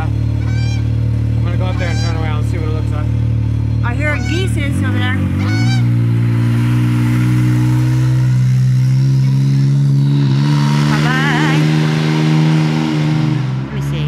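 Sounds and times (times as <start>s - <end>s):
engine running at low revs: 0.0s - 14.0s.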